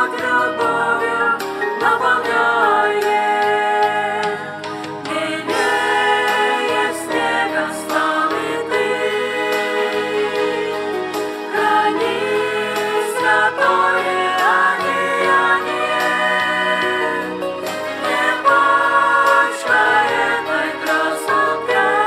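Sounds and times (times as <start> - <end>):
mixed choir singing a hymn: 0.0 - 22.0.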